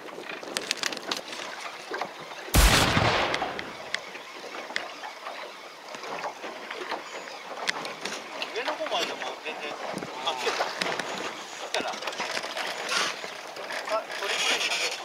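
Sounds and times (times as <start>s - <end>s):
boat on water: 0.0s - 15.0s.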